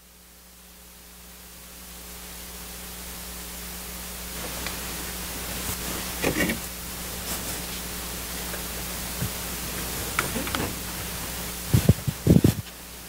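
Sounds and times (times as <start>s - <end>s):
low hum: 0.0s - 13.0s
steady hiss: 0.0s - 13.0s.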